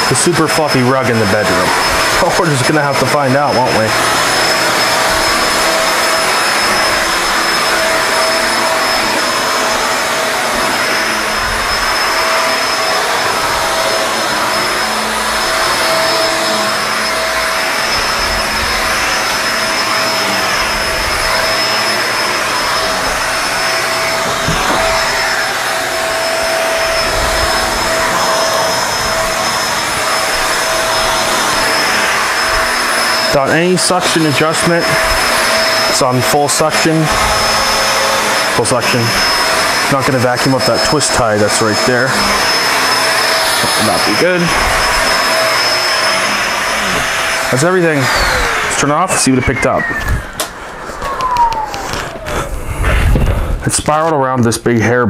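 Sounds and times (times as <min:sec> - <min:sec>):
vacuum cleaner running on carpet: 0:00.0 - 0:54.9.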